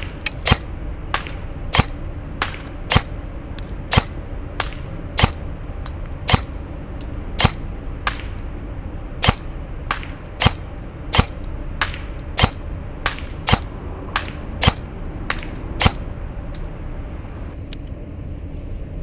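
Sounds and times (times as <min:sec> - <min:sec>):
airsoft rifle shots: 0:00.0 - 0:06.6, 0:07.3 - 0:16.7.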